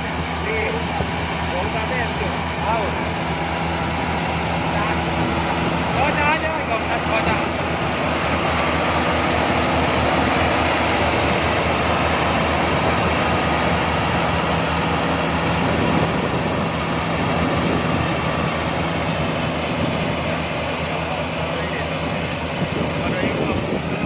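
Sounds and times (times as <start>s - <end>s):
harvester engine running: 0.0s - 24.0s.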